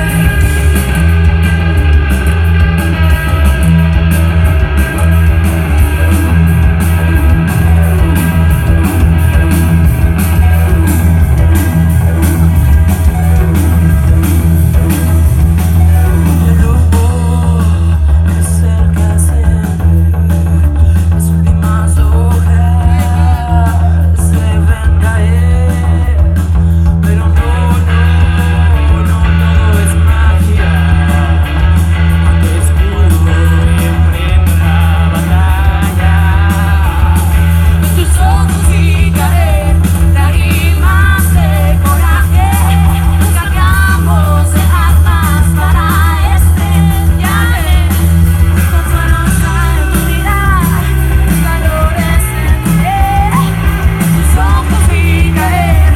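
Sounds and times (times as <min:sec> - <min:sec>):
rock band playing live: 0:00.0 - 0:55.9
person singing: 0:04.6 - 0:55.9.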